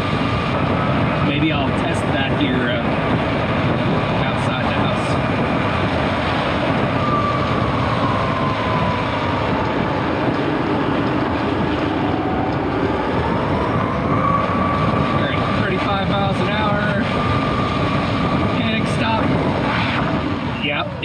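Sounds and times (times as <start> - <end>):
tyres on wet road: 0.0 - 21.0
wind noise: 0.0 - 21.0.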